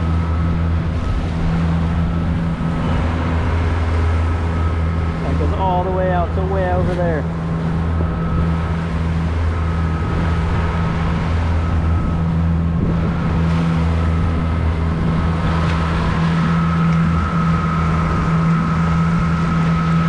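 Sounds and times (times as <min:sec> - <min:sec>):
boat motor humming: 0:00.0 - 0:20.0
water splashing along hull: 0:00.0 - 0:20.0.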